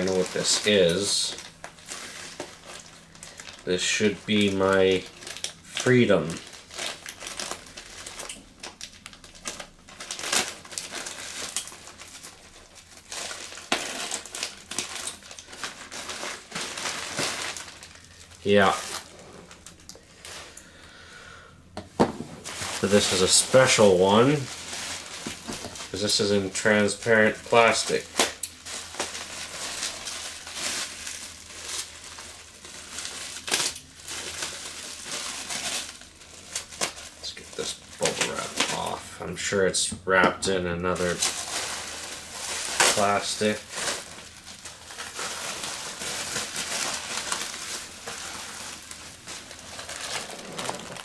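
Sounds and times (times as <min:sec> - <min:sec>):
plastic packaging crinkling: 0:00.0 - 0:51.0.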